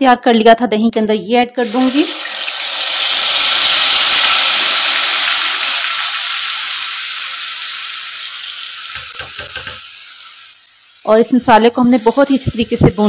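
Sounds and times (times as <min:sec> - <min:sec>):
masala sizzling in hot oil: 0:01.6 - 0:13.0.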